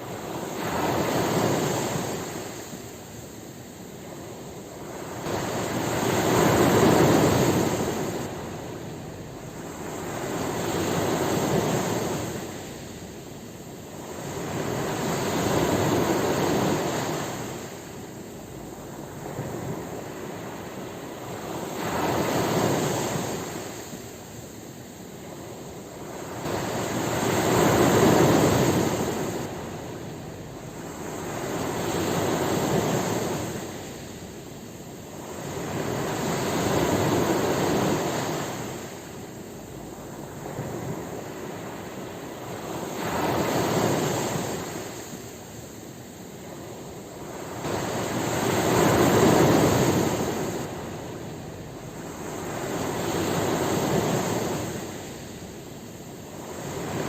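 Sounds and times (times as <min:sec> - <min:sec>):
ocean waves washing in: 0:00.0 - 0:57.0.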